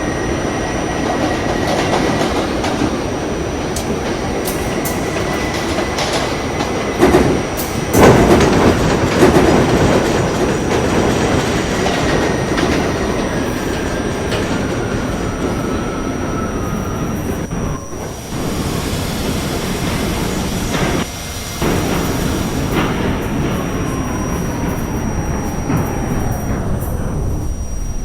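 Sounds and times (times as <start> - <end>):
subway train rumble: 0.0 - 28.0
wheels clicking over rail joints: 0.4 - 28.0.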